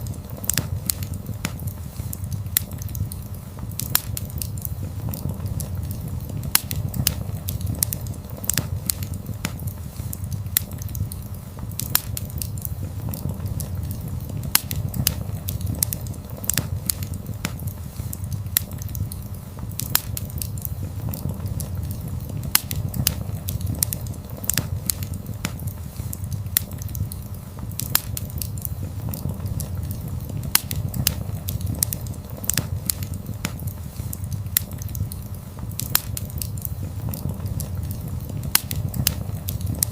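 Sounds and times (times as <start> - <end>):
fire crackles and pops: 0.0 - 39.9
fire low rumble: 0.0 - 39.9.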